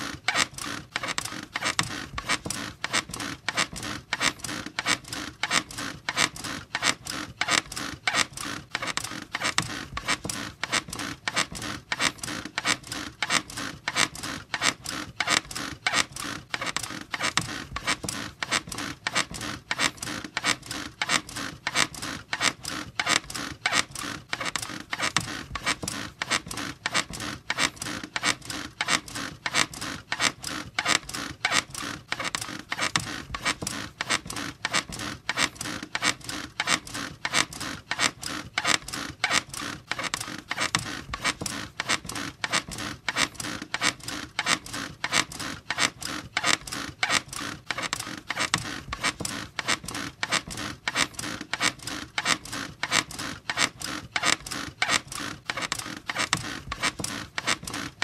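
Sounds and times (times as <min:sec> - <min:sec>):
bed squeaking rhythmically: 0:00.0 - 0:58.0.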